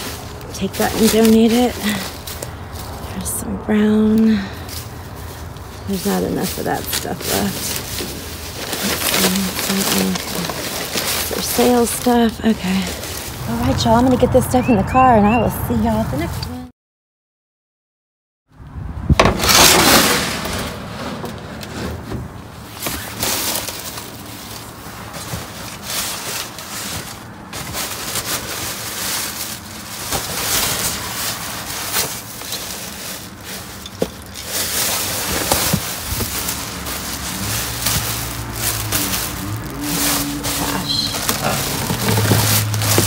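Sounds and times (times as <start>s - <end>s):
trash bags and boxes rustling: 0.0s - 15.0s, 19.1s - 43.0s.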